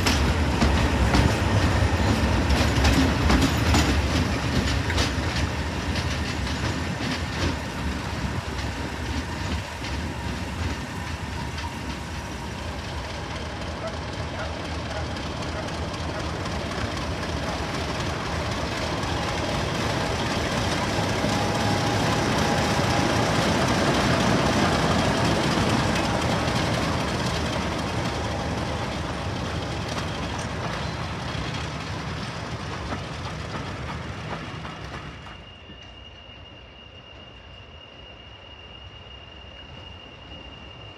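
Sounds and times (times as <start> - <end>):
diesel train passing: 0.0 - 40.9.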